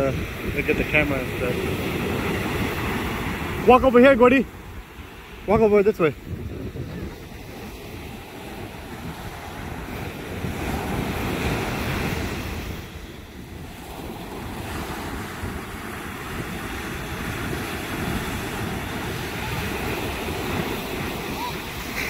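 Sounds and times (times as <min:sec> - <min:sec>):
ocean surf breaking: 0:00.0 - 0:22.0
wind rumbling on microphone: 0:00.0 - 0:22.0.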